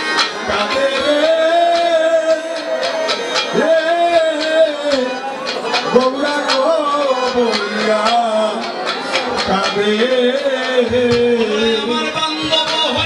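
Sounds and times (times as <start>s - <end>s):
drum strikes: 0.0s - 13.0s
harmonium chords: 0.0s - 13.0s
man singing: 0.0s - 13.0s.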